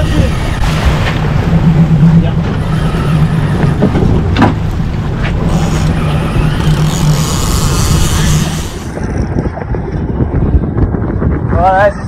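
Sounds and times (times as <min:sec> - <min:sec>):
outboard motor running: 0:00.0 - 0:10.7.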